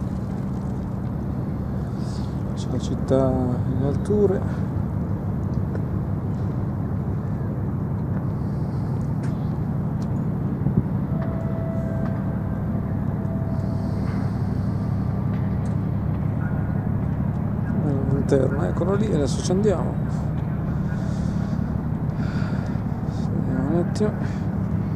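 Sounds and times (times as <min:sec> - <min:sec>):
faint held whine: 0:00.0 - 0:24.9
vehicle engine hum: 0:00.0 - 0:24.9.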